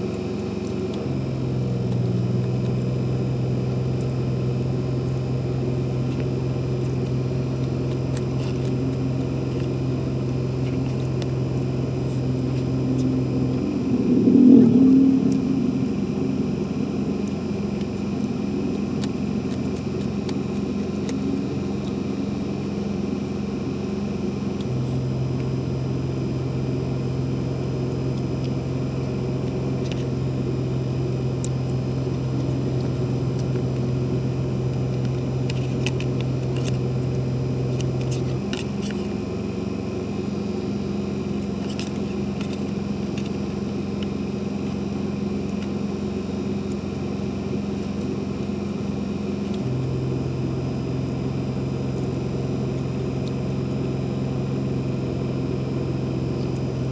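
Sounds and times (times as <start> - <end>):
steady motor drone: 0.0 - 56.9.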